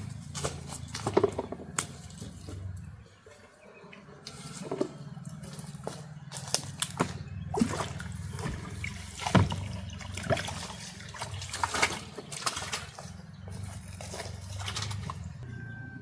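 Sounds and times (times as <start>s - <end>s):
water splashing and dripping: 0.0s - 3.5s, 4.2s - 15.4s.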